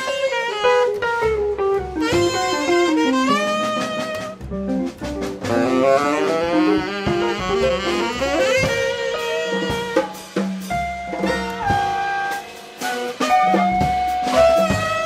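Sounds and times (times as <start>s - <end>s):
bass notes: 0.0s - 15.0s
drums: 0.0s - 15.0s
tenor saxophone playing: 0.0s - 15.0s.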